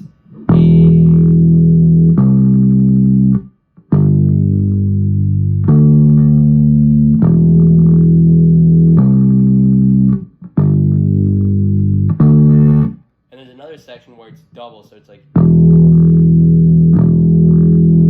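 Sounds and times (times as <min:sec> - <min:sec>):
bass guitar notes: 0:00.0 - 0:13.7, 0:15.3 - 0:18.0.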